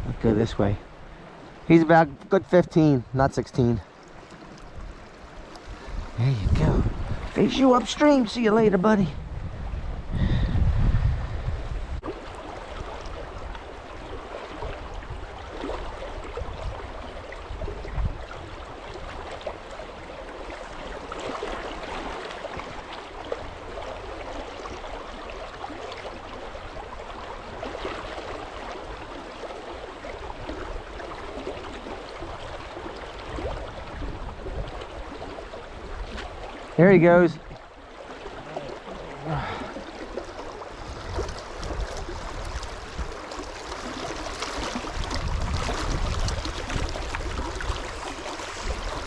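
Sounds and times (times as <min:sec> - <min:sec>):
creek water flowing: 0:00.0 - 0:49.0.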